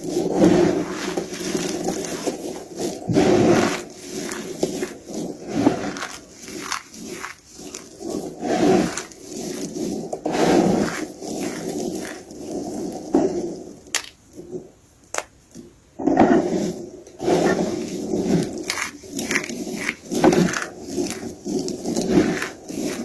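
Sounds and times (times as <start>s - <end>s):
soap crunching: 0.0s - 14.3s, 17.5s - 23.0s.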